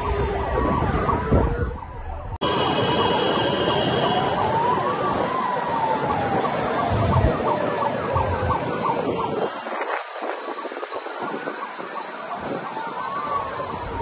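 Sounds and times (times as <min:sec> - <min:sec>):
road traffic noise: 0:00.0 - 0:14.0
vehicle siren wailing: 0:00.0 - 0:14.0.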